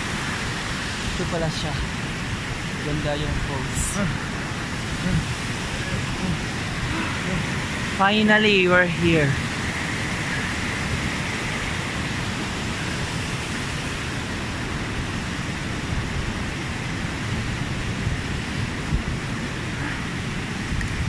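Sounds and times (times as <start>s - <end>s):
waterfall rushing: 0.0s - 21.0s
wind rumbling on microphone: 0.0s - 21.0s.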